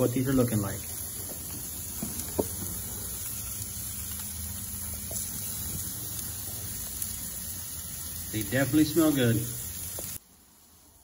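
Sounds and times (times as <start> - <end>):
steaks sizzling on a grill: 0.0 - 11.0.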